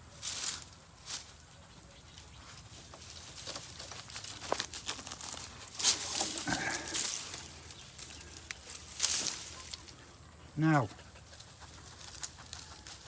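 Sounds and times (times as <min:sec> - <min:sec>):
dry twigs and leaves crackling: 0:00.0 - 0:13.0.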